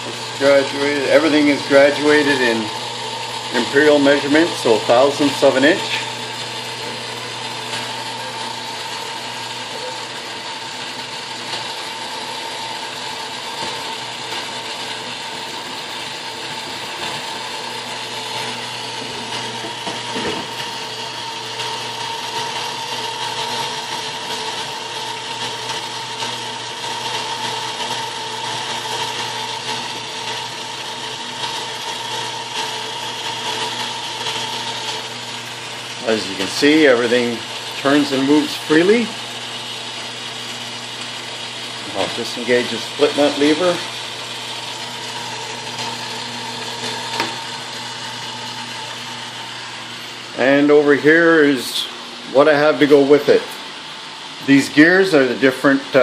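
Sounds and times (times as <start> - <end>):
metal lathe whirring and humming: 0.0 - 56.0.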